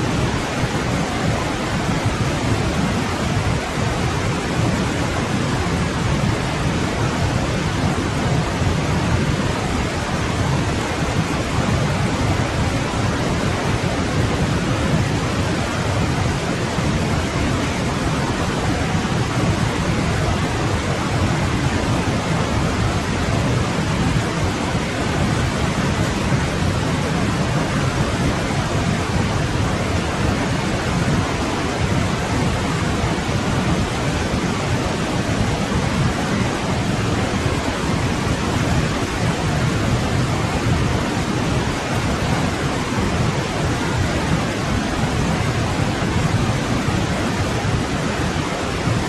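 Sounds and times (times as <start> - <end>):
stream rushing water: 0.0 - 49.0.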